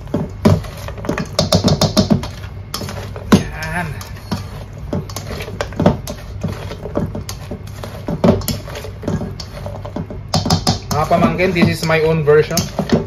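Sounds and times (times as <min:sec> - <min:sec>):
steady low hum: 0:00.0 - 0:13.0
spoon scraping metal bowl: 0:00.5 - 0:13.0.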